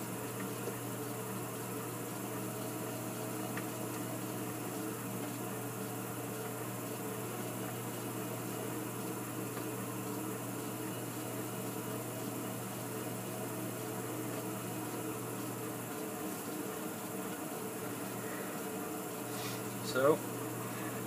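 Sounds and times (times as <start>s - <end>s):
potter's wheel motor humming: 0.0s - 21.0s.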